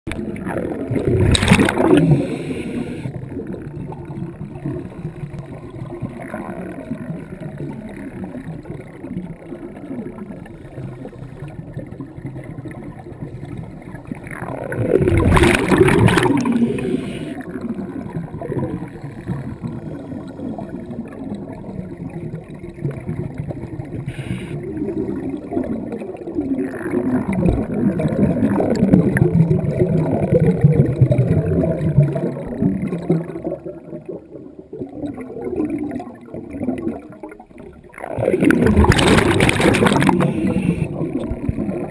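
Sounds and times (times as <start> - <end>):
underwater bubbles gurgling: 0.1 - 41.9.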